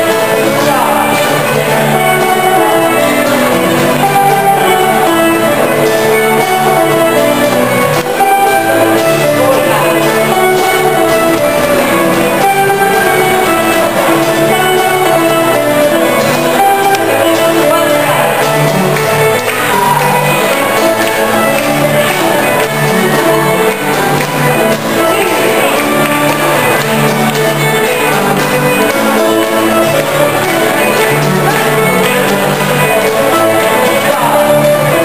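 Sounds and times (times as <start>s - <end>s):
live folk band playing polka: 0.0s - 35.0s.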